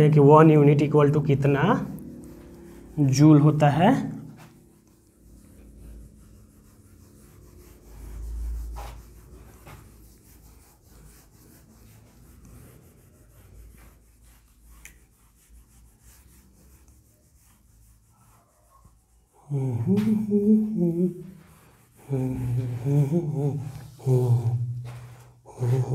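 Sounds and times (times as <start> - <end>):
duster scrubbing a whiteboard: 0.0 - 25.9.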